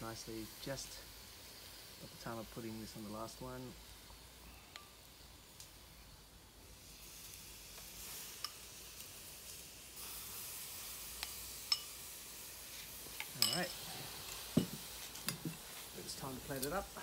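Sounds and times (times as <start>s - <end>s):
shellfish sizzling over charcoal: 0.0s - 17.0s.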